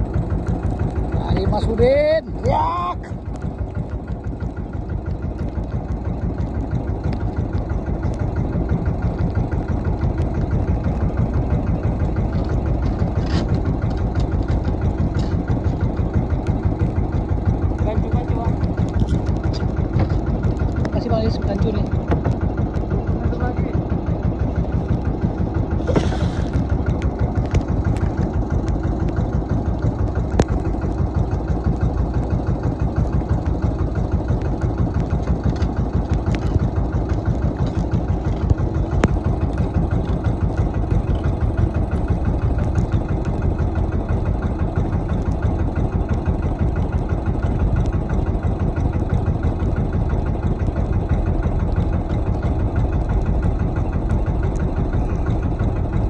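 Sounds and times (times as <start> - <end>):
boat engine throbbing: 0.0 - 56.0.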